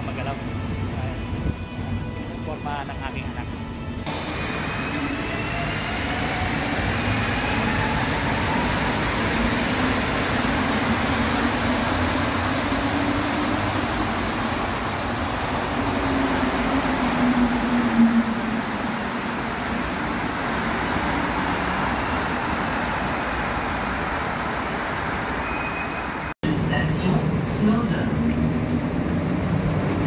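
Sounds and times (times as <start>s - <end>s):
metro train rumbling: 0.0s - 30.0s.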